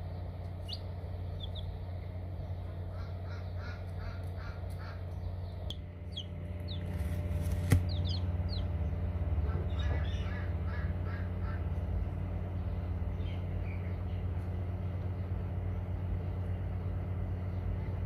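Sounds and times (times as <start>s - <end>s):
steady low hum: 0.0s - 18.0s
chicks peeping: 0.2s - 15.2s.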